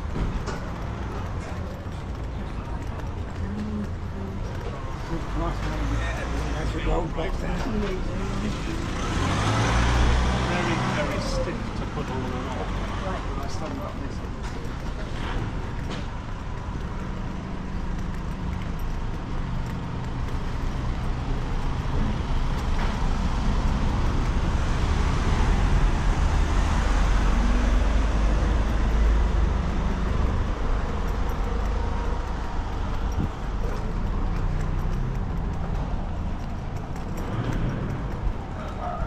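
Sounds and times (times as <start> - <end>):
vehicle engine passing: 4.7 - 14.2, 14.8 - 39.0.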